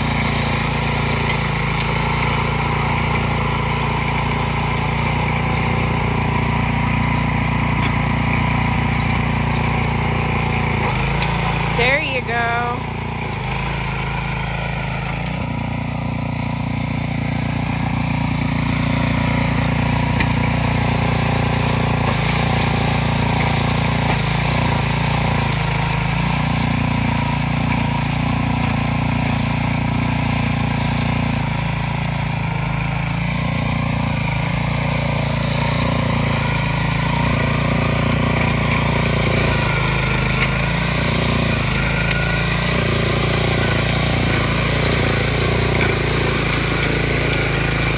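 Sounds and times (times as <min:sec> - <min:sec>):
rototiller engine running: 0:00.0 - 0:47.9.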